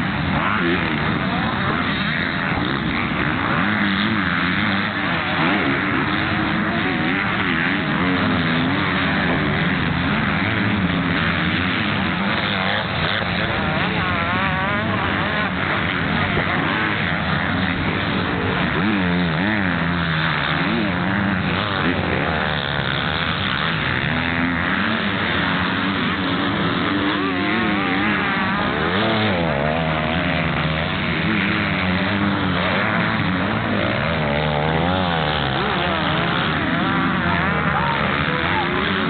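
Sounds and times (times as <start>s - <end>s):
motocross bike engines revving: 0.0s - 39.0s.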